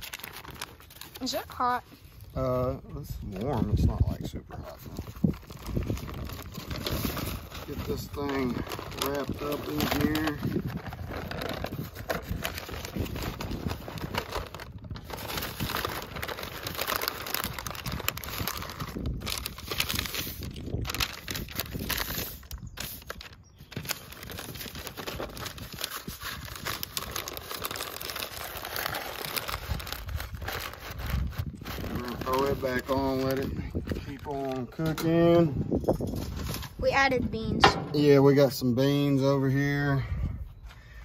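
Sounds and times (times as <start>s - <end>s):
paper crinkling and rustling: 0.0s - 2.3s, 3.2s - 35.2s.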